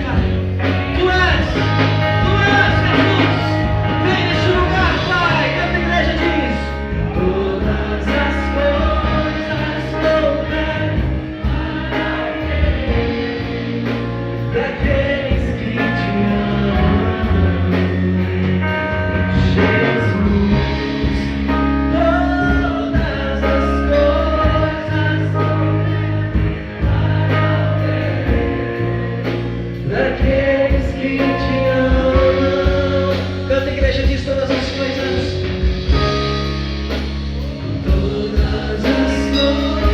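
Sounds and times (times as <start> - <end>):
gospel band with singing: 0.0 - 39.9.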